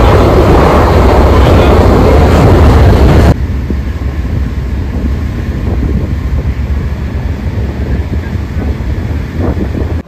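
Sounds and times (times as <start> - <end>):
vehicle engine rumble: 0.0 - 10.0
wind buffeting microphone: 0.0 - 10.0.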